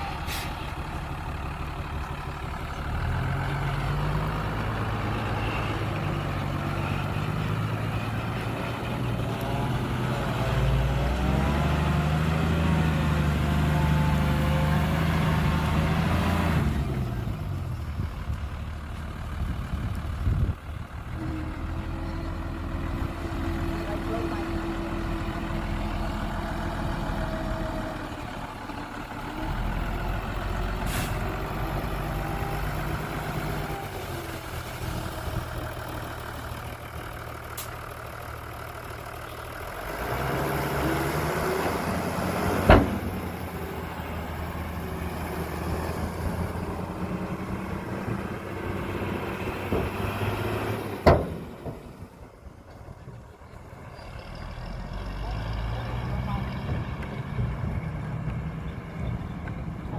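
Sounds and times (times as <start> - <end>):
heavy diesel engines under load: 0.0 - 59.9.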